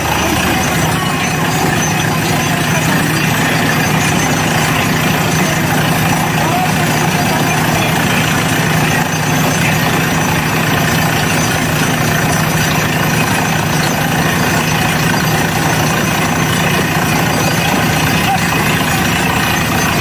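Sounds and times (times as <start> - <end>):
drilling rig drone and rattle: 0.0 - 20.0.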